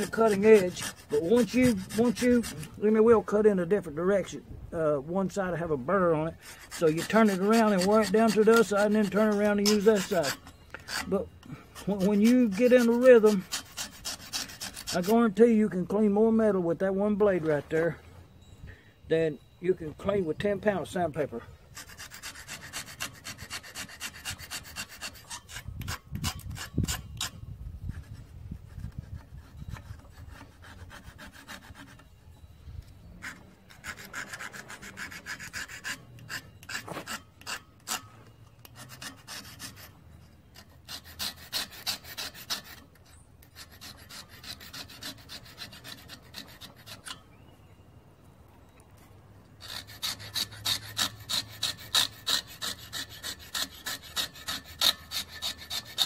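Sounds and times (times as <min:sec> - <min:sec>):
scraper blade scraping rust off steel: 0:00.0 - 0:03.8, 0:05.9 - 0:15.5, 0:21.7 - 0:32.2, 0:32.8 - 0:47.4, 0:49.6 - 0:56.0.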